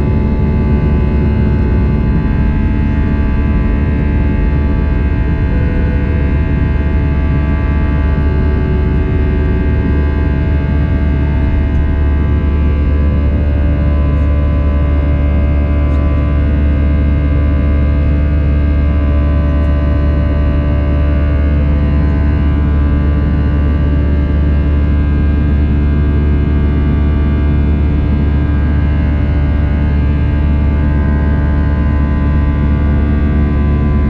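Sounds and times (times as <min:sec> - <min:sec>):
jet engine cabin drone: 0:00.0 - 0:34.0.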